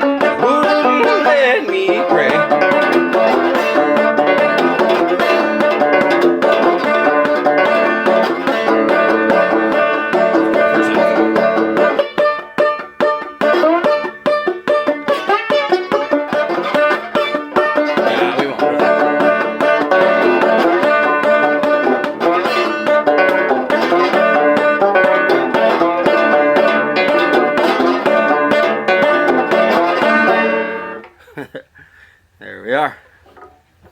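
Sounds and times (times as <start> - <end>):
slide banjo guitar blues riff: 0.0 - 31.2.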